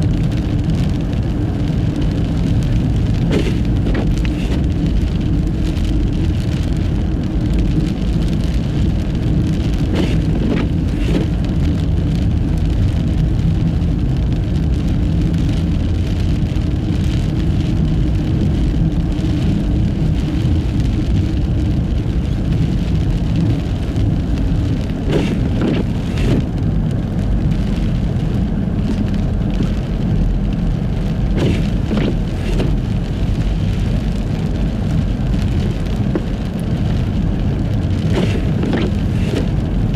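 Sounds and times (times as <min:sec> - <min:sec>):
tyres rumbling on snowy road: 0:00.0 - 0:39.9.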